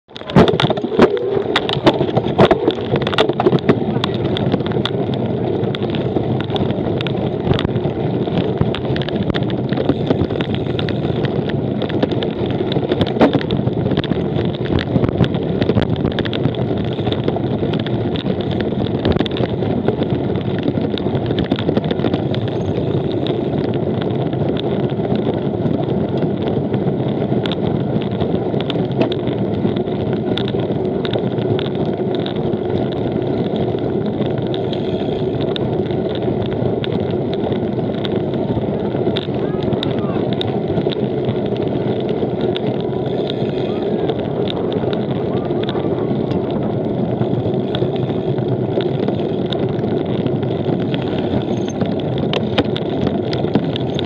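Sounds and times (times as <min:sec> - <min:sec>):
bicycle tyres rolling and rattling: 0:00.0 - 0:54.0
sharp clicks and knocks: 0:00.1 - 0:54.0.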